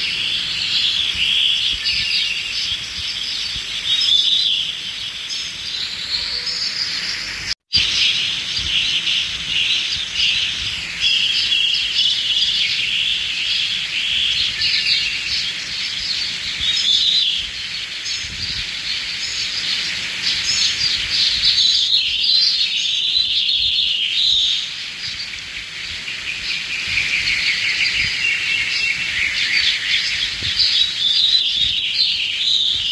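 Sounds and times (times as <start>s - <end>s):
small birds chirping chorus: 0.0s - 32.9s.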